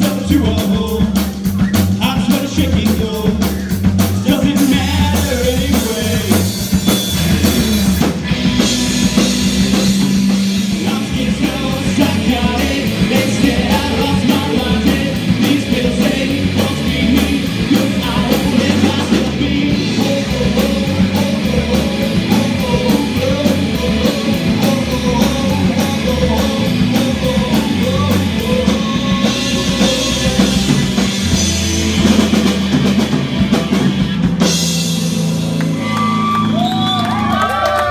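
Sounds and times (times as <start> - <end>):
live rock band playing: 0.0 - 37.9.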